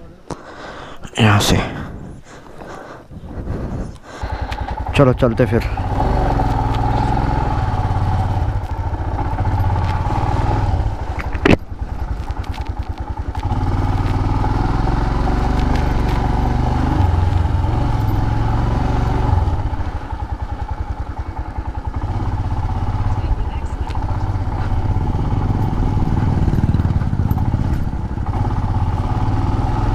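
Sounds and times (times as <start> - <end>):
motorcycle engine running: 3.1 - 29.9.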